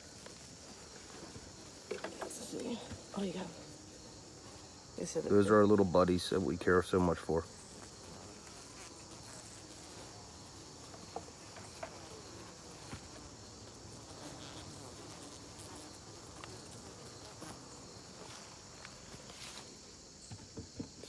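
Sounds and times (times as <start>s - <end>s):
bees buzzing: 0.0s - 21.0s
crickets chirping: 0.0s - 21.0s.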